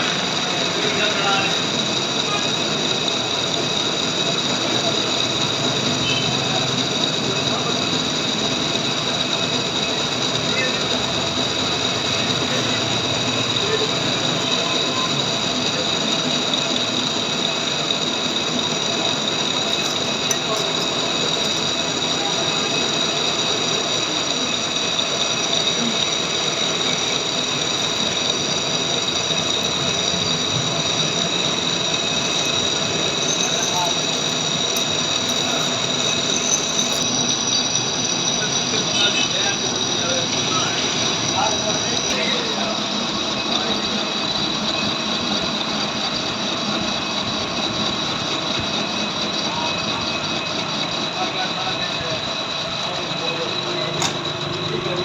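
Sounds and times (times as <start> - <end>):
lathe running with high whine: 0.0 - 55.0.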